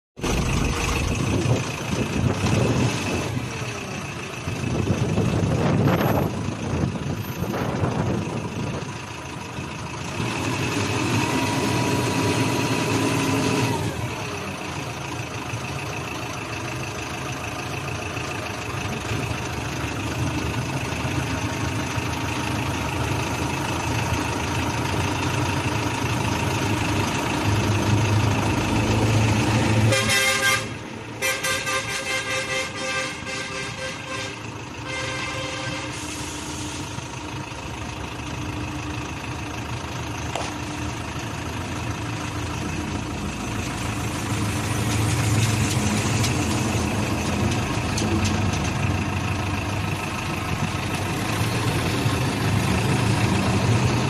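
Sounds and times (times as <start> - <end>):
forklift engine revving: 0.2 - 54.0.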